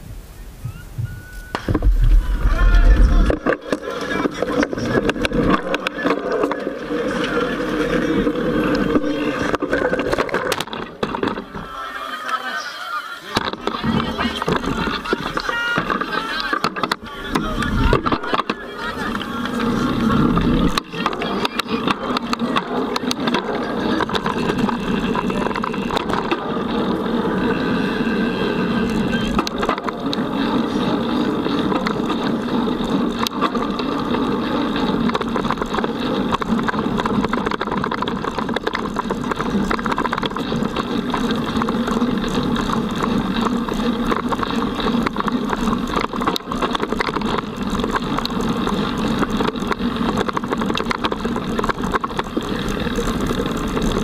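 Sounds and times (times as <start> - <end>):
wind and tyre noise: 0.0 - 54.0
bike rattling over bumps: 1.5 - 12.2, 13.2 - 54.0.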